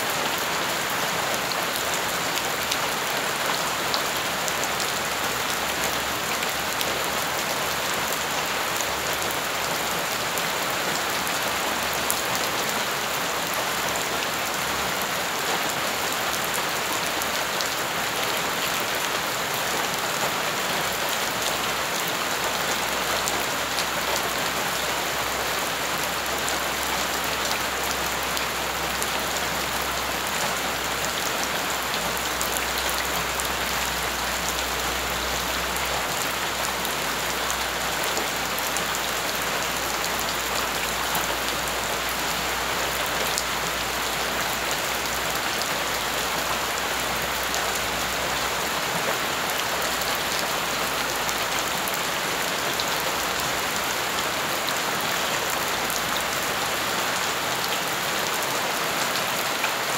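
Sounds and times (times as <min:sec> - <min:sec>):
rain falling on ground: 0:00.0 - 0:59.9.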